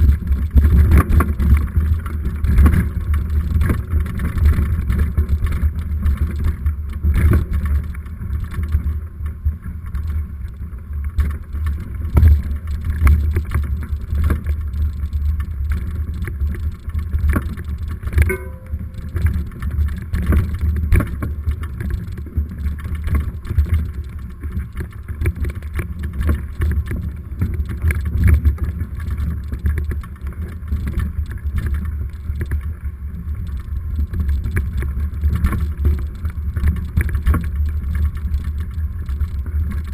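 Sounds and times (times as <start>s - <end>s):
bike rumble and buffeting: 0.0s - 39.9s.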